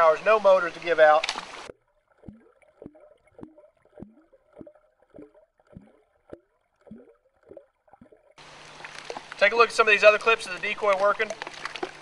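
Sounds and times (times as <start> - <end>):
underwater plops of decoy feet: 1.0 - 12.0.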